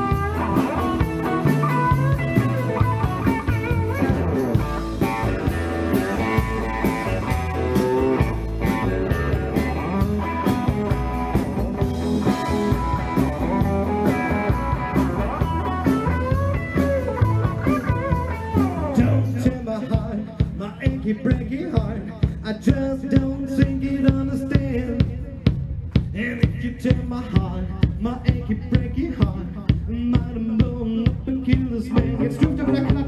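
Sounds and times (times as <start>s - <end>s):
lead guitar line: 0.0s - 25.8s, 31.5s - 33.0s
bass: 0.0s - 33.0s
drums: 0.0s - 33.0s.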